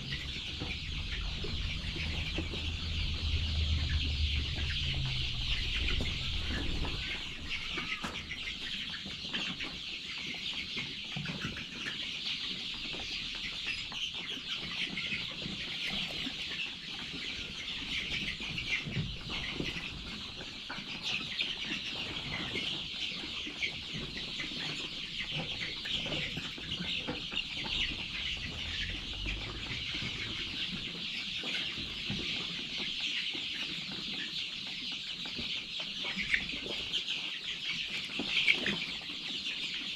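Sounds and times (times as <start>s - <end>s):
flock of chickens clucking: 0.0s - 39.9s.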